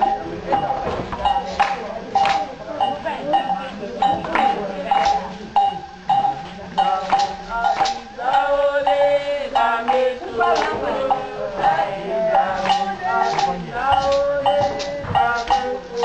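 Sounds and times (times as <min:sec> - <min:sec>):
group singing: 0:00.0 - 0:16.0
hand drum strokes: 0:00.0 - 0:16.0.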